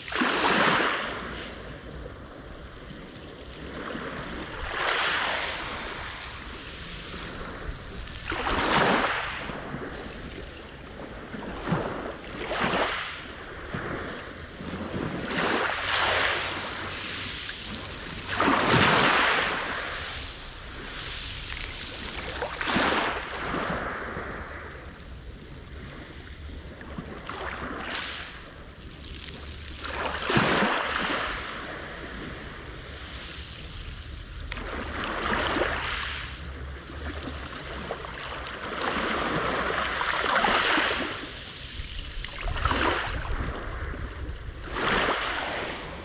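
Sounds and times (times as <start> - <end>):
waves breaking on shore: 0.0 - 46.0.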